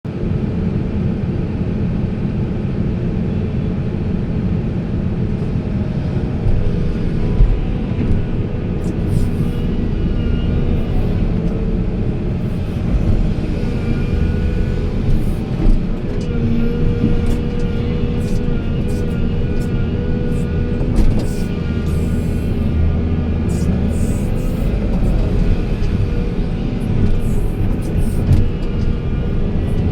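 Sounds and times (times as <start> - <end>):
diesel engine rumble: 2.6 - 29.9
machine whine: 4.6 - 29.9.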